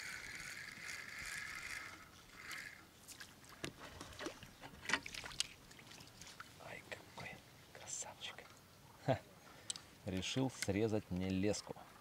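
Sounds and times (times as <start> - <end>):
light water splashing: 2.4 - 12.0.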